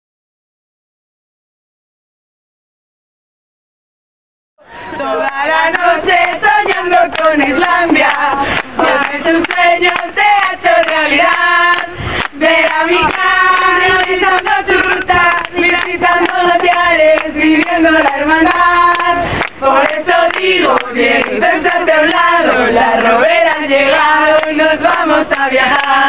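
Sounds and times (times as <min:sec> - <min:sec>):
group of people singing: 0:04.7 - 0:26.0.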